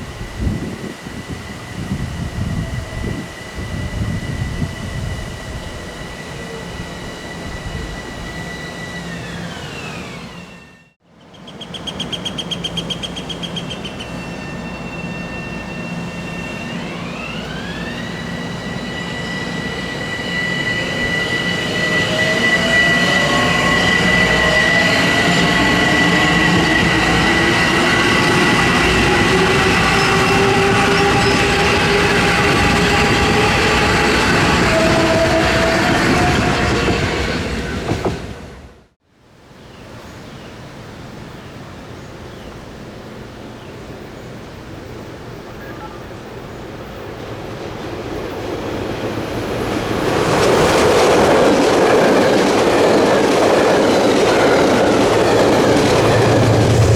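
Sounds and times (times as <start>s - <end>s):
electric train whine: 0.0s - 39.0s, 42.7s - 56.9s
low train hum: 0.0s - 39.0s, 40.1s - 56.9s.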